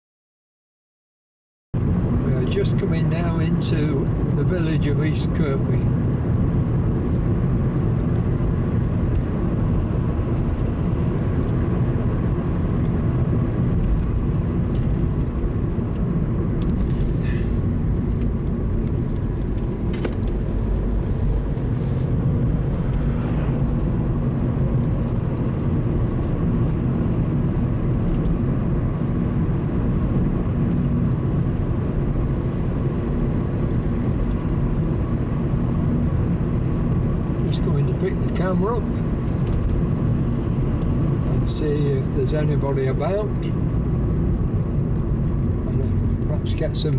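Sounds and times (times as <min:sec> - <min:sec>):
car driving: 0:01.8 - 0:46.9.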